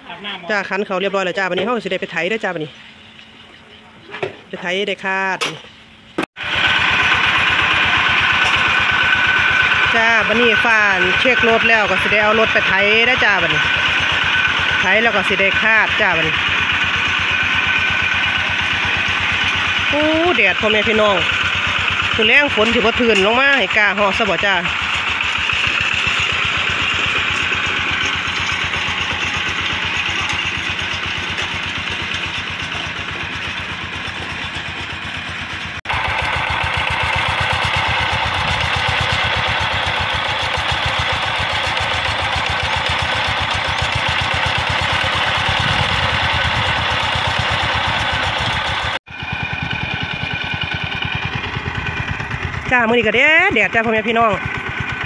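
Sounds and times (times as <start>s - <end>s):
single-cylinder engine running: 6.1s - 55.0s.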